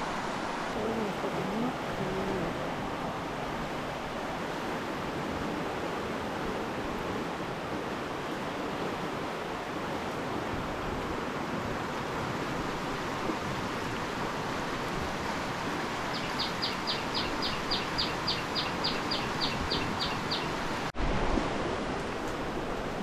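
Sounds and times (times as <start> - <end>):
flooded stream rushing: 0.0 - 23.0.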